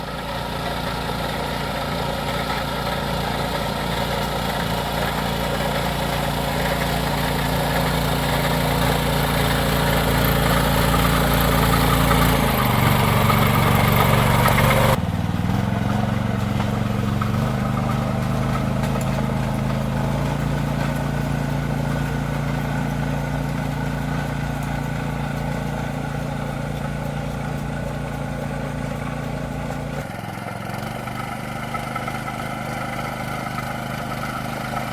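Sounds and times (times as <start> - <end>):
small engine running: 0.0 - 34.9.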